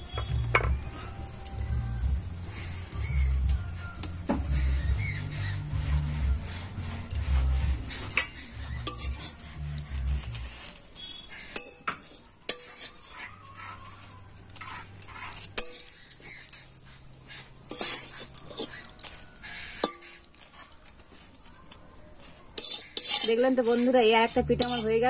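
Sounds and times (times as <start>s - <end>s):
metal spatula scraping a wok: 2.0s - 21.4s, 22.2s - 25.0s.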